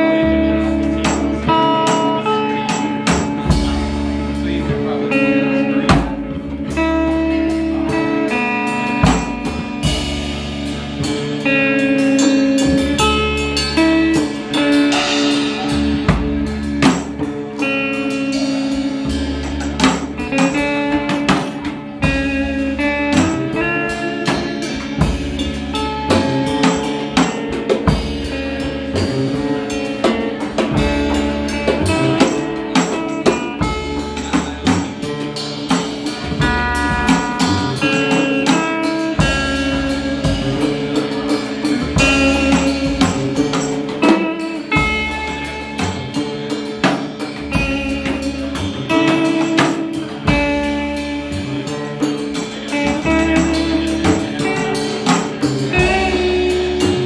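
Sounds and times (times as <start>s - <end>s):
live band playing: 0.0s - 57.0s.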